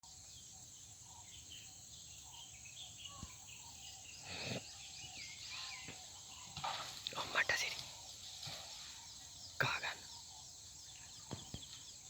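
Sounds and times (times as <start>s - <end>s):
bird chirps: 0.1s - 8.2s, 8.8s - 12.0s.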